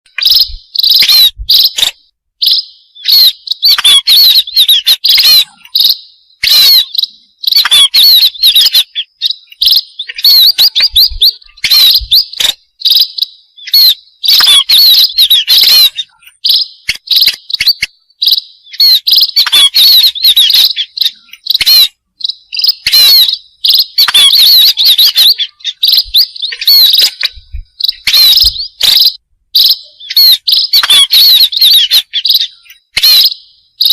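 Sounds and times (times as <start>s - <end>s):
finches twittering: 0.1s - 33.9s.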